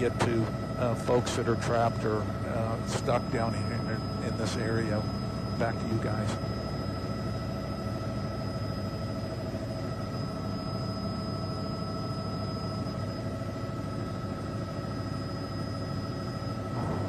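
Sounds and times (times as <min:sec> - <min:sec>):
constant whining tones: 0:00.0 - 0:17.0
helicopter engine and rotor drone: 0:00.0 - 0:17.0.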